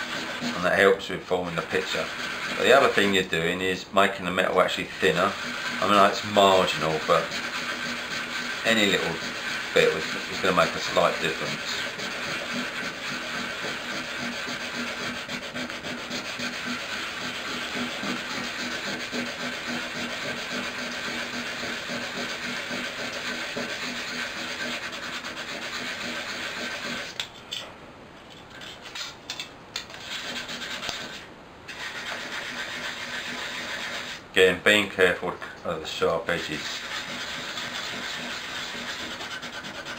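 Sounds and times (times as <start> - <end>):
emery cloth scratching metal: 0.0 - 3.3, 4.4 - 27.6, 29.9 - 34.2, 36.3 - 39.9.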